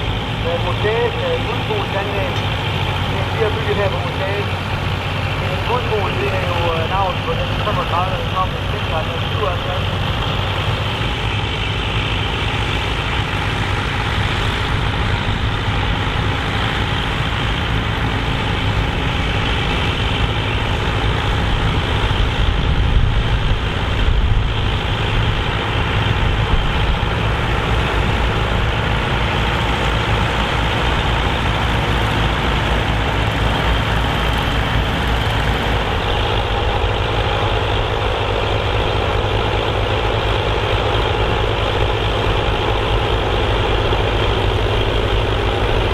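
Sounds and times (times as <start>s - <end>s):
tractor engines running under load: 0.0s - 45.9s.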